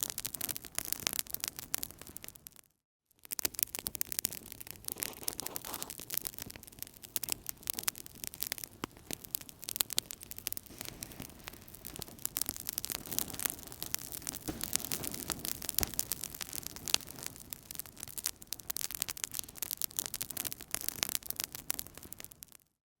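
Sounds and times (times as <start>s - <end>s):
wood fire crackling: 0.0s - 22.6s.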